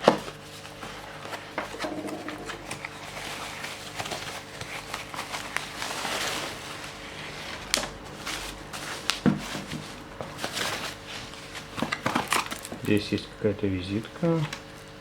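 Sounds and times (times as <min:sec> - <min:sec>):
packaging rustling and crinkling: 0:00.0 - 0:13.2.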